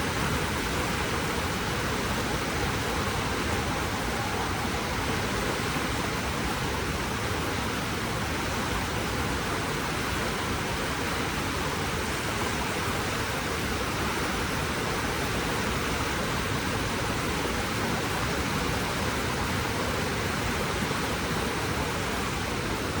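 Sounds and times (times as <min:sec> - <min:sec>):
waterfall and river rushing: 0:00.0 - 0:23.0.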